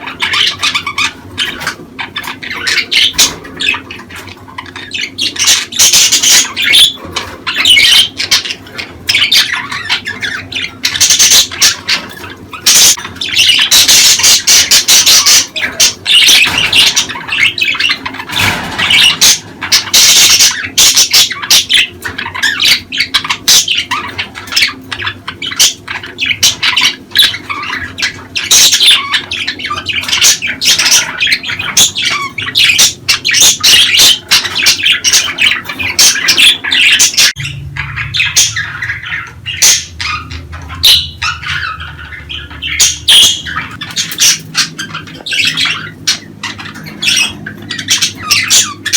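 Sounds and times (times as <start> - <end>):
budgerigars chattering and squawking: 0.0 - 48.9.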